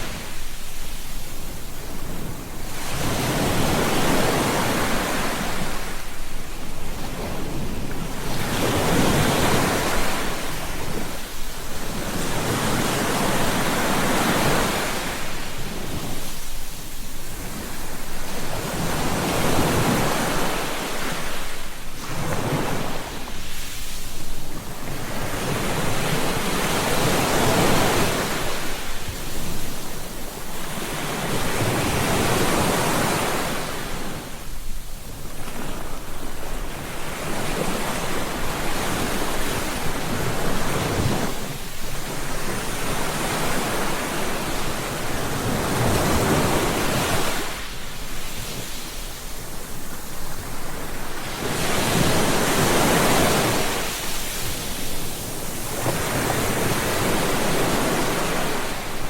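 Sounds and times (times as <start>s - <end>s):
waves breaking on a beach: 0.0s - 59.0s.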